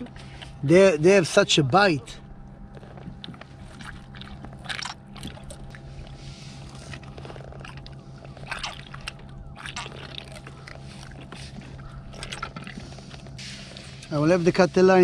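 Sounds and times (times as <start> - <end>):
steady low hum: 0.0 - 15.0
wet sloshing: 2.1 - 14.5.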